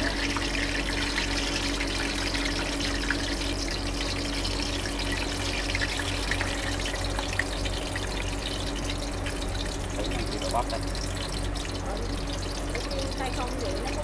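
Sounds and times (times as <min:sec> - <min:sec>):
oil sizzling and crackling: 0:00.0 - 0:14.0
steady low hum: 0:00.0 - 0:14.0.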